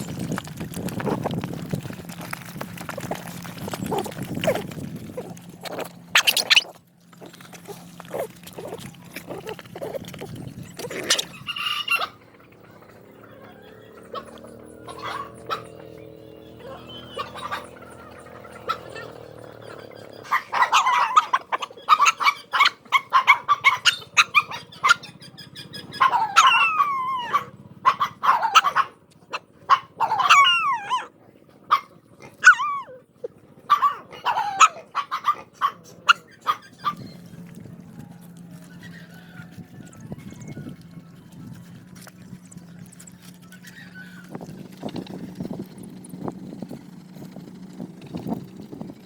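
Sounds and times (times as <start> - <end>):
dogs barking and yelping: 0.0 - 49.0.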